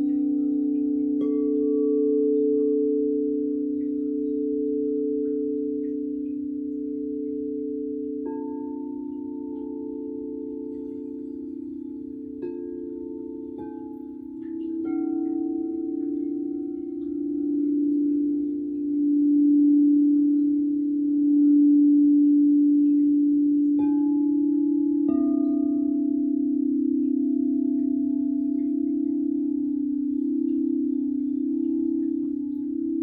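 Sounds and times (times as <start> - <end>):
singing bowls ringing: 0.0 - 33.0.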